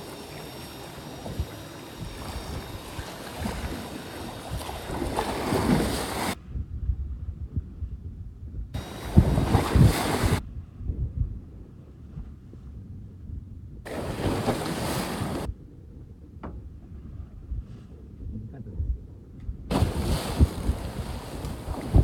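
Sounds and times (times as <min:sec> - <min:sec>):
water and boat noise: 0:00.0 - 0:22.0
wind buffeting microphone: 0:00.0 - 0:22.0.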